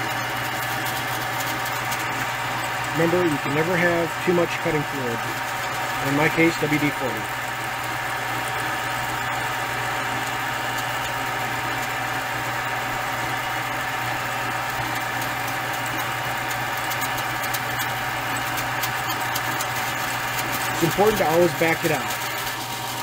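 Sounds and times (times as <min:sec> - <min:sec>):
metal lathe drilling: 0:00.0 - 0:23.0.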